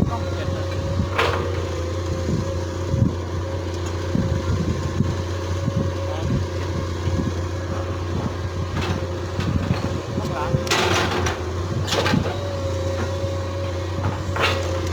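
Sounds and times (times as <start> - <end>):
excavator diesel engine: 0.0 - 14.9.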